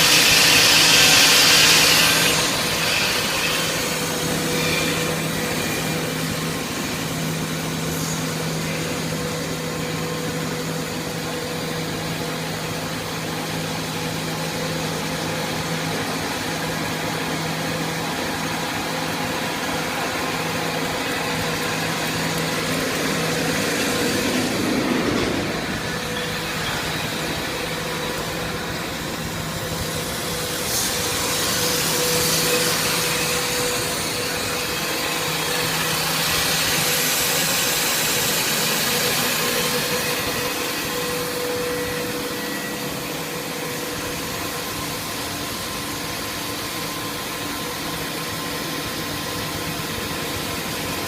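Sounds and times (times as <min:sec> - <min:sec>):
drilling machine hissing: 0:00.0 - 0:50.9.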